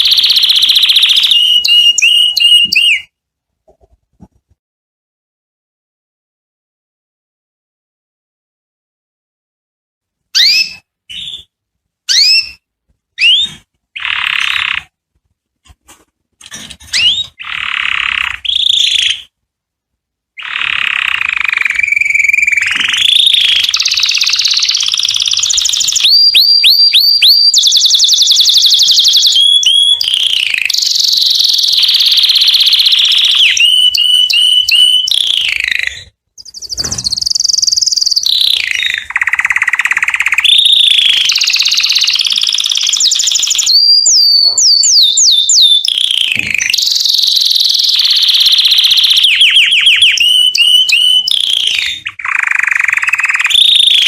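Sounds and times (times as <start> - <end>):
canary singing trills: 0.0 - 3.2, 10.3 - 14.9, 16.5 - 19.4, 20.4 - 54.0.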